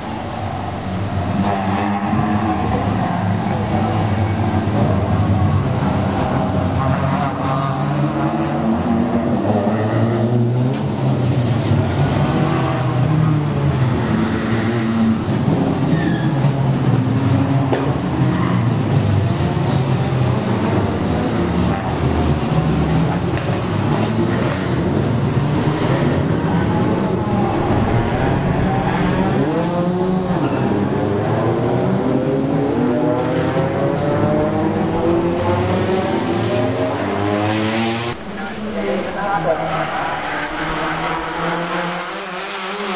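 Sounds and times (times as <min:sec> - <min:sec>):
race cars accelerating past: 0:00.0 - 0:42.9.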